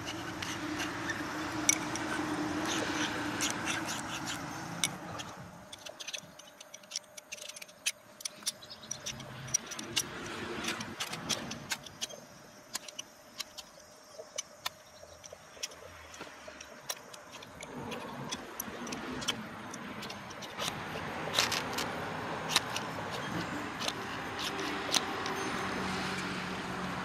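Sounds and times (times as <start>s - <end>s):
wrench scraping a metal rod: 0.0s - 26.4s.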